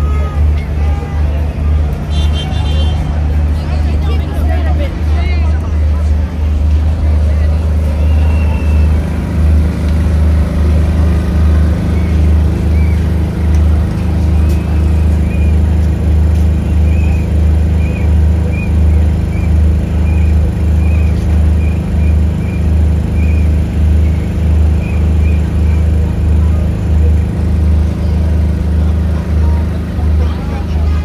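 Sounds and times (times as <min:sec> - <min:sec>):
bass-heavy music: 0:00.0 - 0:31.0.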